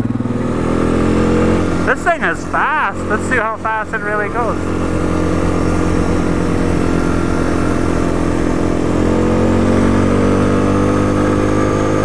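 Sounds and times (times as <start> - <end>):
atv engine at full throttle: 0.0 - 12.0.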